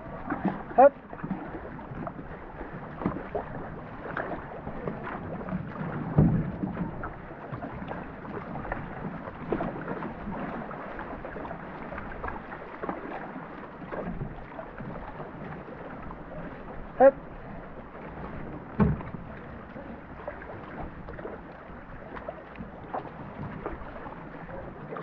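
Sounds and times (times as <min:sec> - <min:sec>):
paddles splashing: 0:00.0 - 0:25.0
water washing along hull: 0:00.0 - 0:25.0.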